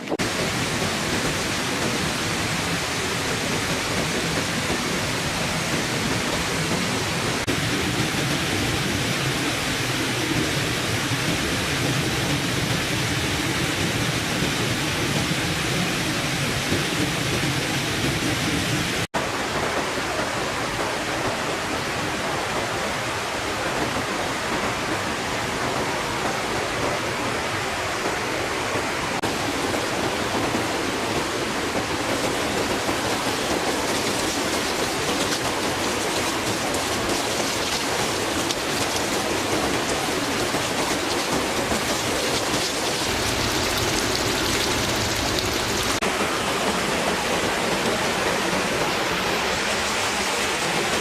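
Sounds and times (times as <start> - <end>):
falling water rushing: 0.0 - 51.0.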